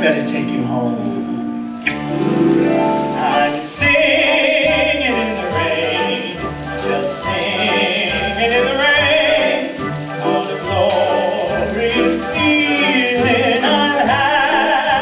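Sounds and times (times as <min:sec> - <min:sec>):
orchestral show music: 0:00.0 - 0:15.0.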